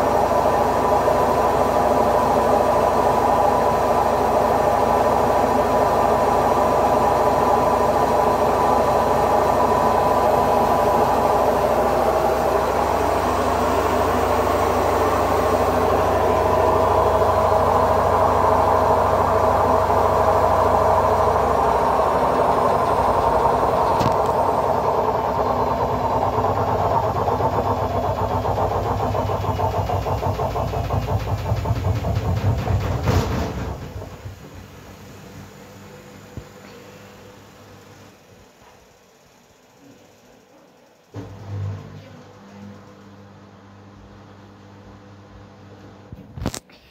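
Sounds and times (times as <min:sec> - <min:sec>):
washing machine spinning: 0:00.0 - 0:46.5.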